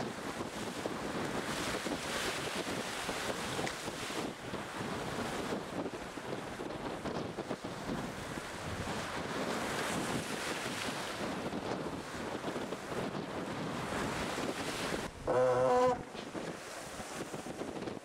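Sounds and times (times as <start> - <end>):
rushing sea water: 0.0 - 18.0
waves breaking along hull: 0.0 - 18.0
wind buffeting microphone: 0.0 - 18.0.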